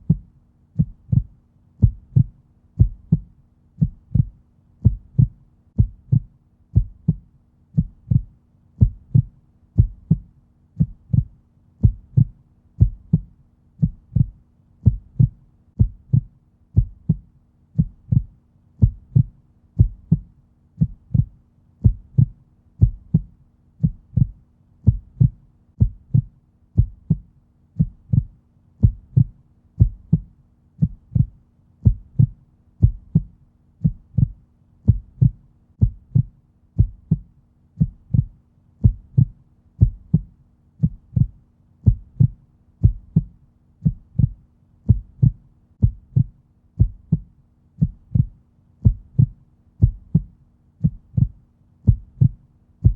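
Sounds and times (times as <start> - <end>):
heartbeat lub-dub: 0.0 - 52.9.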